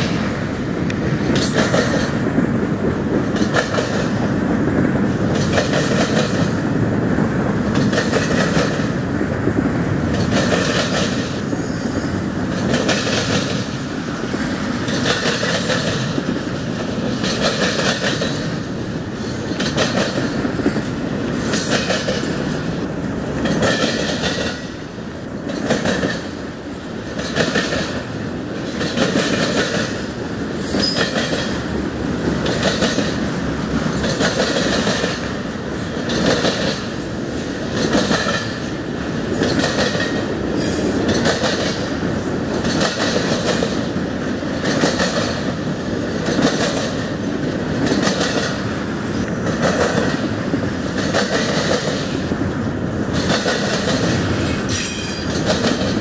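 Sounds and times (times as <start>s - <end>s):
train wheels clattering over rail joints: 0.0s - 6.8s, 7.4s - 56.0s.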